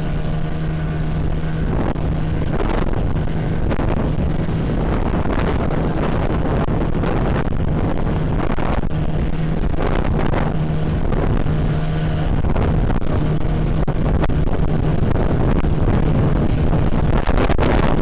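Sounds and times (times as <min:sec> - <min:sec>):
speedboat engine running: 0:00.0 - 0:18.0
wind on microphone: 0:00.0 - 0:18.0.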